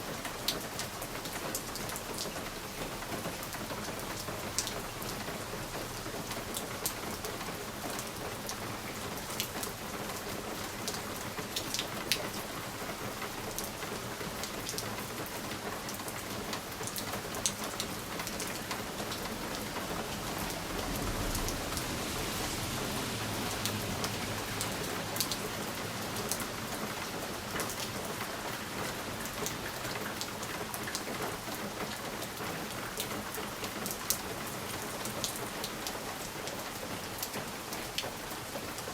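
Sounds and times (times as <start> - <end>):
rain on a window pane: 0.0 - 38.9.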